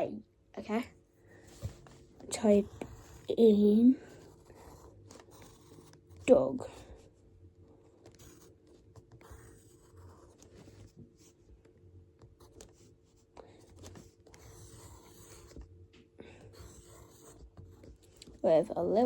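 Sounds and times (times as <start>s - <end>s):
pencil writing on paper: 1.6s - 6.9s, 7.8s - 11.4s, 12.2s - 19.0s.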